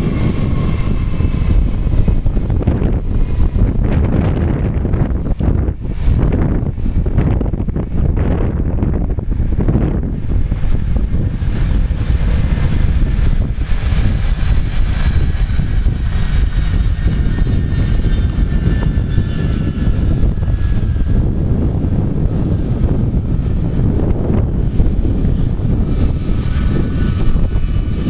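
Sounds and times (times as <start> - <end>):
jet engines whining: 0.0 - 28.0
wind buffeting microphone: 0.0 - 28.0.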